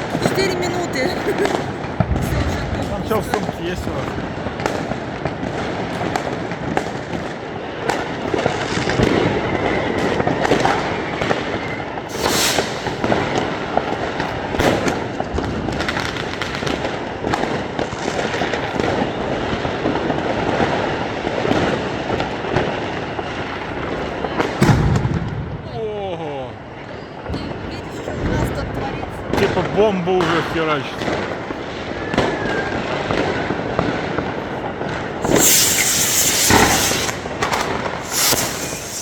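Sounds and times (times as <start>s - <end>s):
fireworks crackling and banging: 0.0s - 25.9s, 26.5s - 39.0s.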